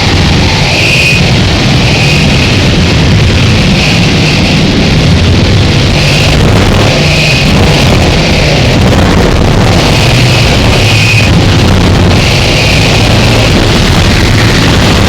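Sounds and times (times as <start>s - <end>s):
distorted electronic noise: 0.0s - 15.0s.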